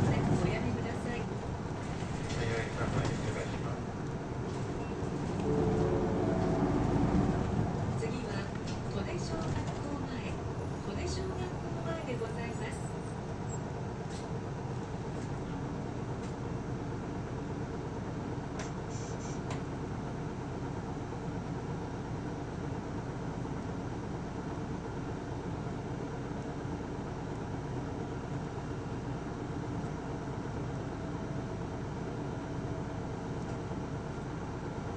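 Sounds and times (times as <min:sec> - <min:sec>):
bus diesel engine and road noise: 0:00.0 - 0:34.9.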